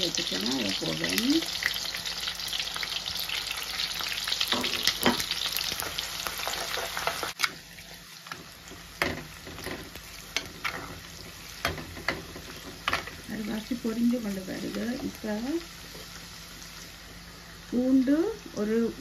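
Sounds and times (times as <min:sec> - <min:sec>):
shallots sizzling in hot oil: 0:00.0 - 0:19.0.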